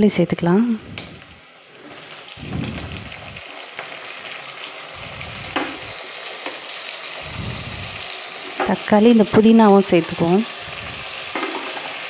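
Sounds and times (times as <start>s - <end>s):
onions frying in hot oil: 0.0s - 12.0s.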